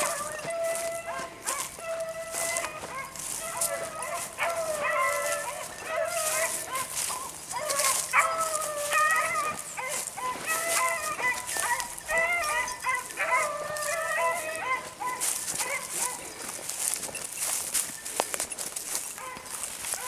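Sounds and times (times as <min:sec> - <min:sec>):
beagles baying: 0:00.0 - 0:20.0
brush and grass rustling underfoot: 0:00.0 - 0:20.0.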